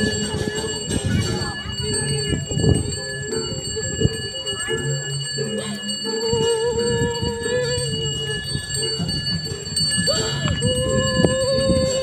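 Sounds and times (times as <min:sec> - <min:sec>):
bells ringing: 0:00.0 - 0:12.0
crowd noise: 0:00.0 - 0:12.0.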